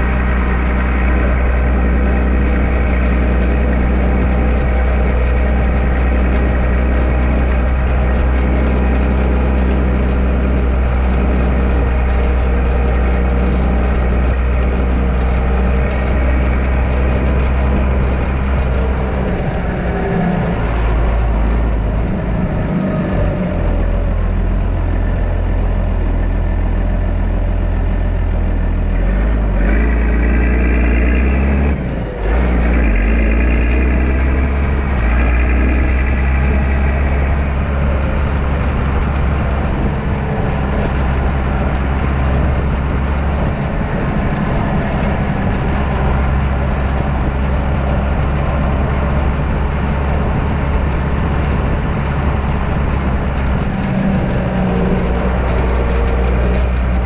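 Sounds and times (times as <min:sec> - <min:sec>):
tractor diesel engine revving: 0:00.0 - 0:57.0.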